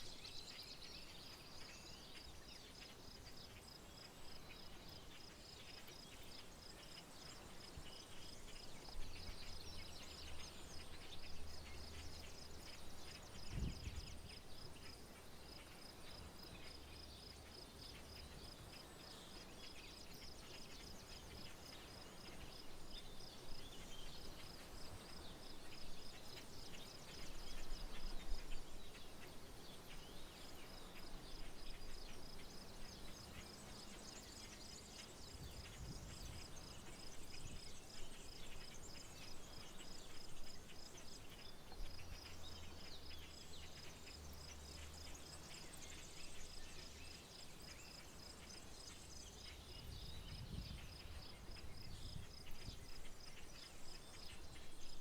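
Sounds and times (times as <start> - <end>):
insect chirping: 0.0 - 55.0.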